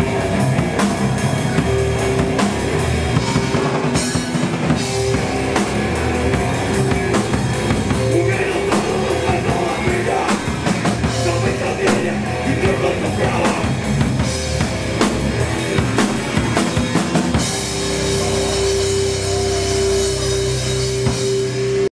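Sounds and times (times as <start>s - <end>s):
fast drum kit: 0.0s - 21.9s
hardcore band playing live: 0.0s - 21.9s.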